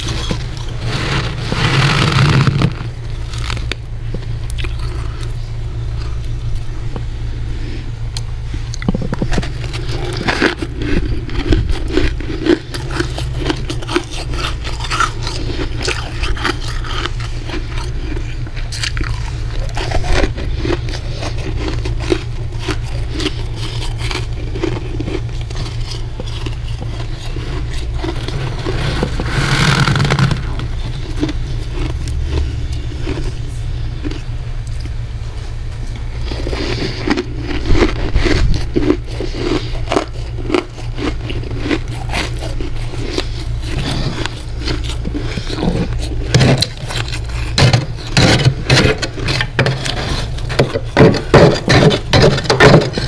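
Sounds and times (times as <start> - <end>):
crisp frost crunching: 0.0 - 6.3, 8.6 - 34.3, 36.0 - 53.0
steady low hum: 0.0 - 53.0.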